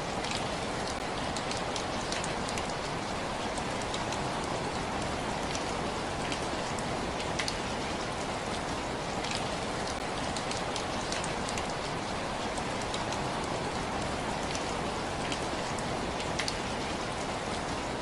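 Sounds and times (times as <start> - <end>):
raindrops ticking on a surface: 0.0 - 18.0
steady rain hiss: 0.0 - 18.0.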